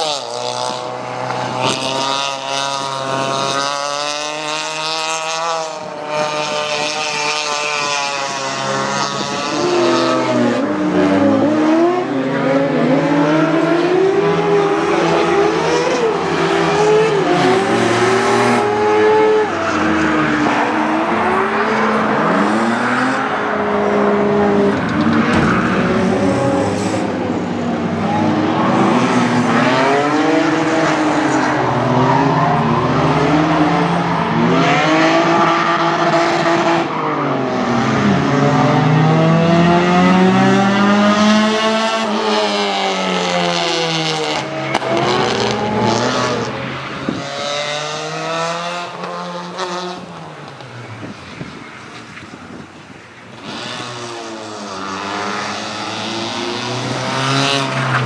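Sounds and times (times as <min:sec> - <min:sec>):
race car engines: 0:00.0 - 0:58.0.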